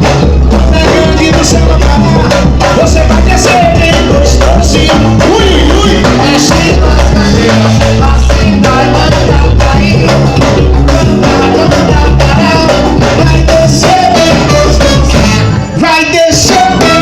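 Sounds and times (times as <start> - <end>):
samba music with bass: 0.0 - 17.0.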